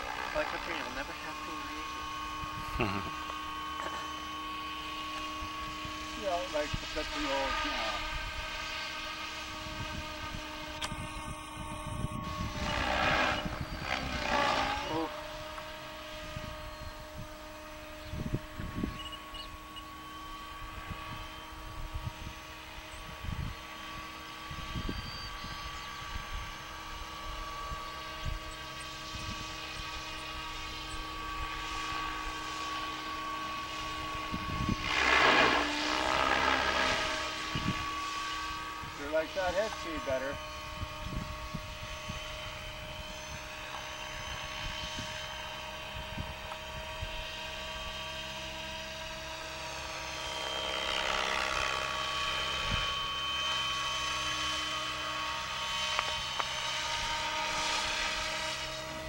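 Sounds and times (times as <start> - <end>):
model helicopter rotor whine: 0.0 - 59.0.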